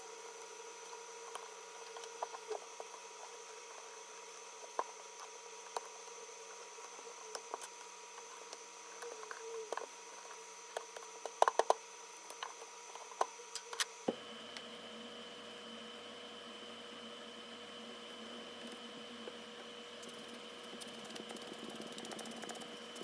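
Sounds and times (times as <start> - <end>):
faint electrical whine: 0.0 - 23.0.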